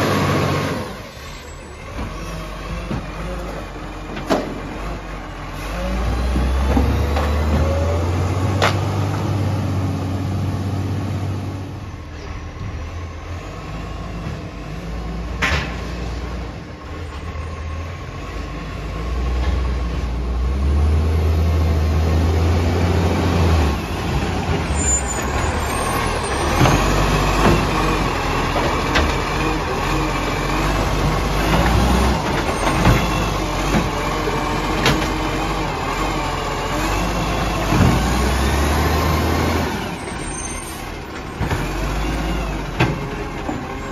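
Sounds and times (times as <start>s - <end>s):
garbage truck diesel engine: 0.0s - 43.9s.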